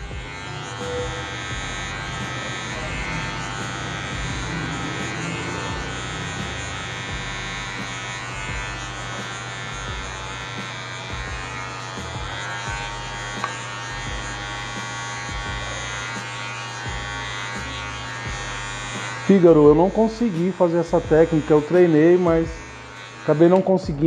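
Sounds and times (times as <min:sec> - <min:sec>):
electric hair clipper buzzing: 0:00.0 - 0:24.0.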